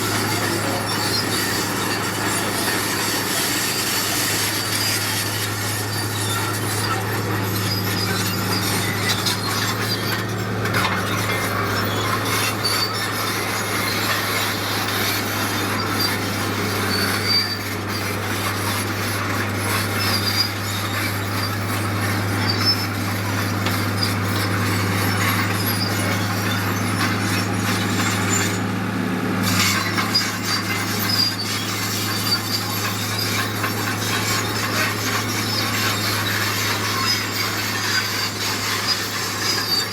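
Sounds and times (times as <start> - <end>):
heavy machinery engine drone: 0.0 - 39.9
tracks scraping and squealing: 0.0 - 39.9.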